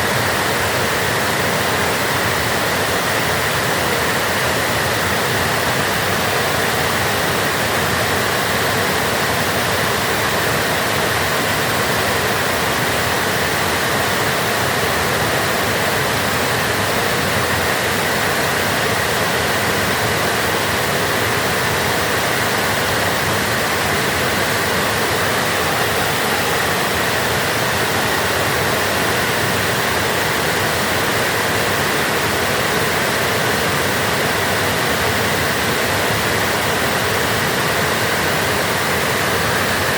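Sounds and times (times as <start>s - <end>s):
water rushing out of a dam: 0.0s - 39.9s.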